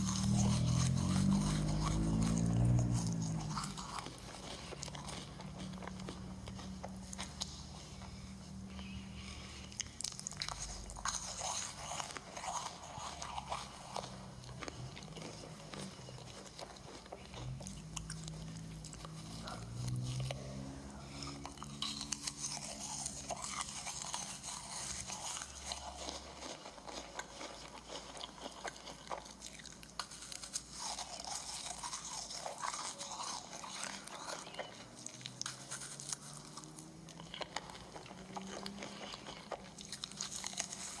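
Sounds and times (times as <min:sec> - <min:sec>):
crunchy cookies being chewed: 0:00.0 - 0:41.0.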